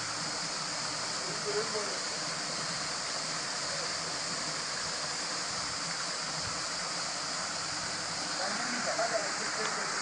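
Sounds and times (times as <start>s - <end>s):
waterfall pouring into pool: 0.0s - 10.0s.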